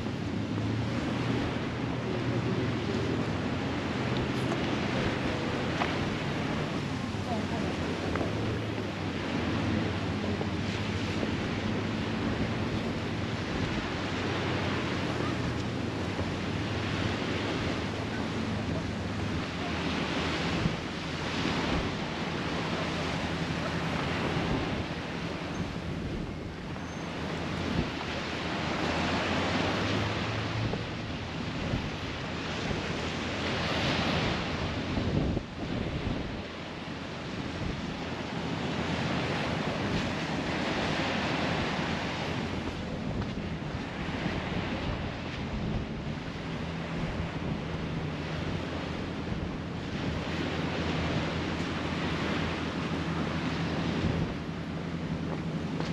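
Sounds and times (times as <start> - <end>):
small waves breaking on beach: 0.0 - 55.9
wind buffeting microphone: 0.0 - 55.9.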